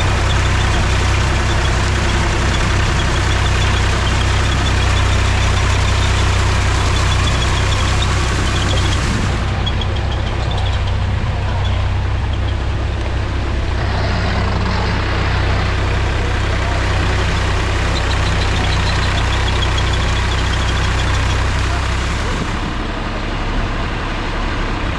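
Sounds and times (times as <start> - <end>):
tractor diesel engine drone: 0.0 - 24.9.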